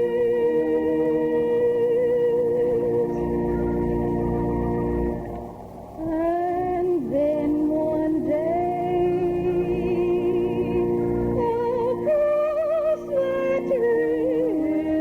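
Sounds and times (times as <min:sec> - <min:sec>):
congregation singing a hymn: 0:00.0 - 0:15.0
organ chords: 0:00.0 - 0:15.0.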